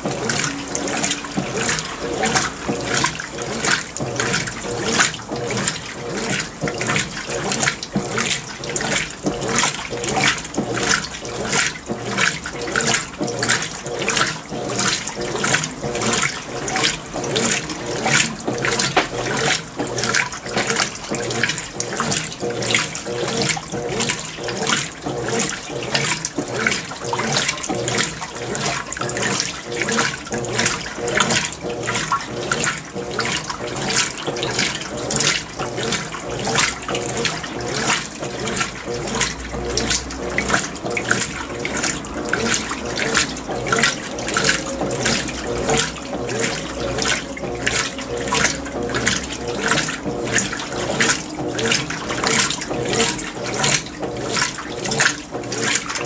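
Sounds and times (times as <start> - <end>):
washing machine water sloshing: 0.0 - 56.0.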